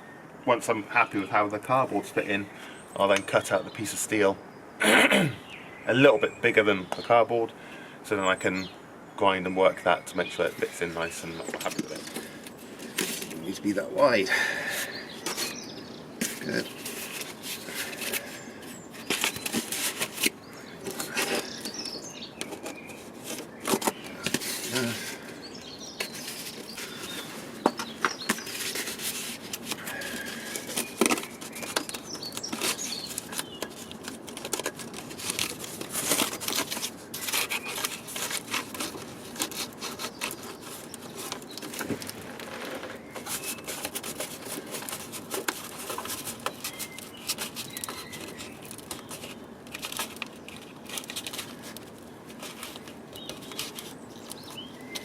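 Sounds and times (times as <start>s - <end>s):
cardboard rustling and crinkling: 10.2s - 55.0s.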